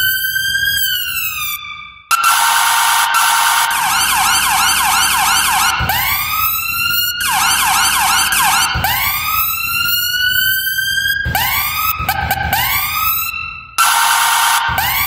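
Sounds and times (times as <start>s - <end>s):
ambulance siren yelp and wail: 0.0s - 15.0s.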